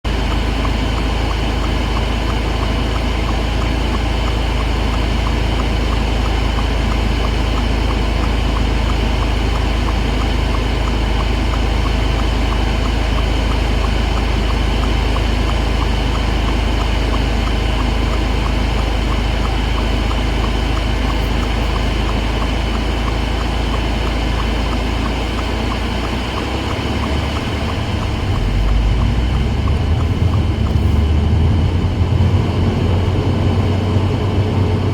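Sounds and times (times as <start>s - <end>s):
road rumble: 0.0s - 34.9s.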